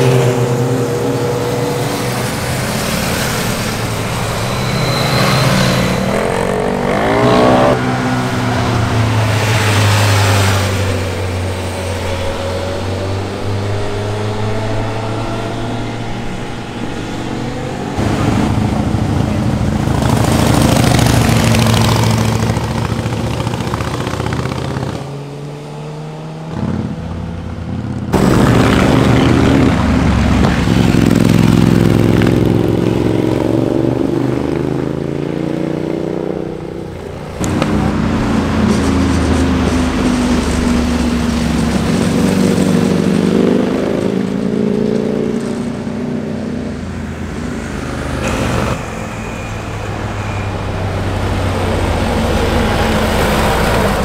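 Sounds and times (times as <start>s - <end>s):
motorcycles passing revving: 0.0s - 54.0s.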